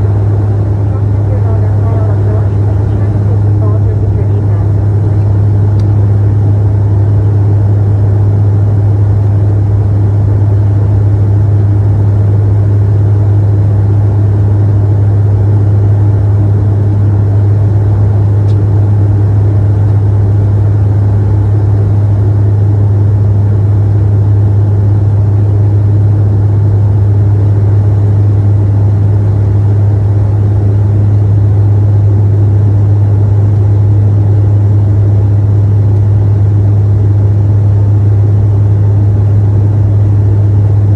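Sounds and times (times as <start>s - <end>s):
propeller and engine drone: 0.0s - 40.9s.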